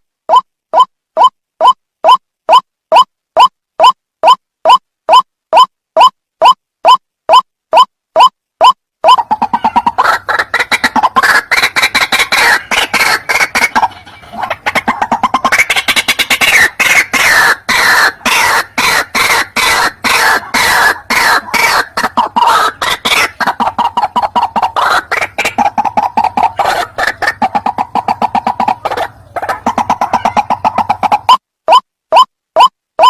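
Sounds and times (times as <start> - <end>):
bird harsh repeated calls: 0.3 - 32.7.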